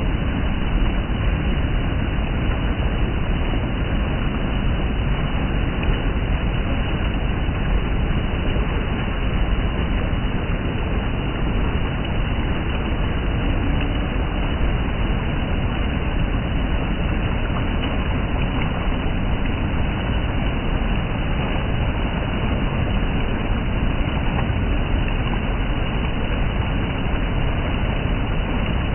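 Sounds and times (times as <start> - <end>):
water rushing over rocks: 0.0 - 28.9.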